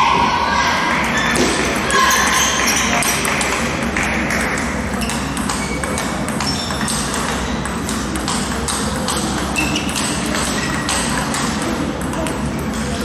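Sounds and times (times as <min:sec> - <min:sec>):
steady low hum: 0:00.0 - 0:13.0
table tennis balls clicking: 0:01.4 - 0:13.0.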